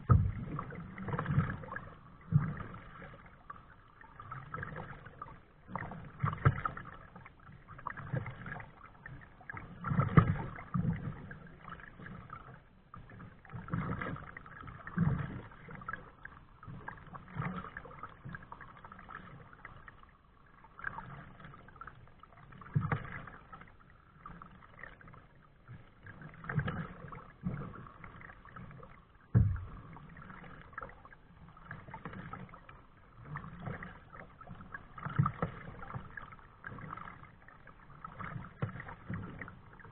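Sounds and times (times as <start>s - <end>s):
paddle strokes splashing: 0.0s - 39.9s
water lapping: 0.0s - 39.9s.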